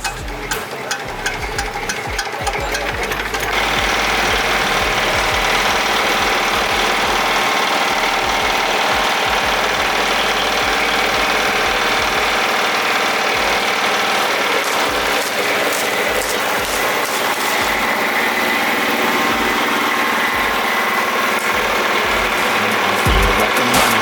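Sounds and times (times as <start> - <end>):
machine running with hum: 0.0 - 24.0.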